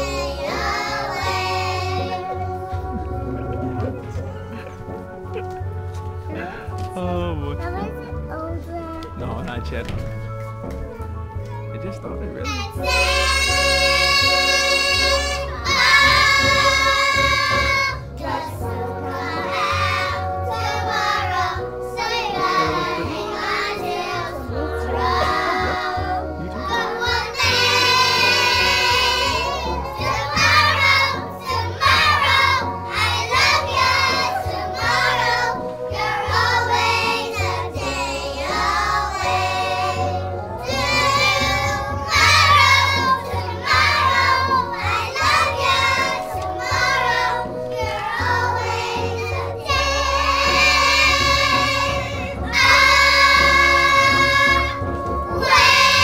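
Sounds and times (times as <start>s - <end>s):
girls singing: 0.0s - 4.2s, 12.8s - 56.0s
musical accompaniment with bass: 0.0s - 56.0s.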